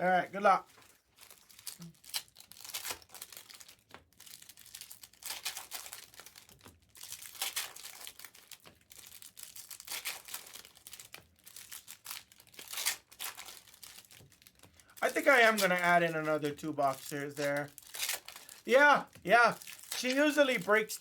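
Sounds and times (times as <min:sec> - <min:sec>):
cards rustling: 0:00.4 - 0:21.0
wrappers tearing and crinkling: 0:00.8 - 0:21.0.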